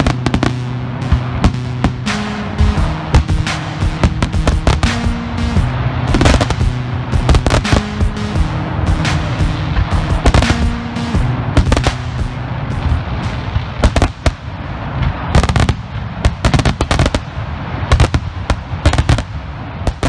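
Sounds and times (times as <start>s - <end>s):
continuous rumble: 0.0s - 20.0s
fireworks bangs and crackling: 0.0s - 20.0s.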